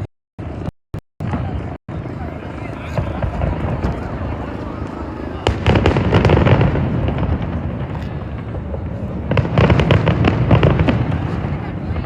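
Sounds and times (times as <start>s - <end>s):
fireworks bangs and crackles: 0.4s - 12.0s.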